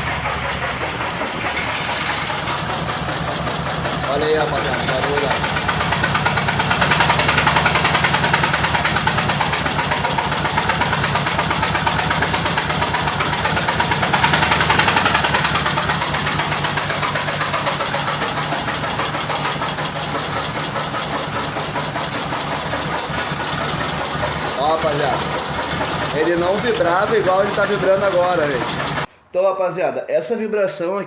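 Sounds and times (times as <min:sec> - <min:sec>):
car engine clattering: 0:00.0 - 0:29.1.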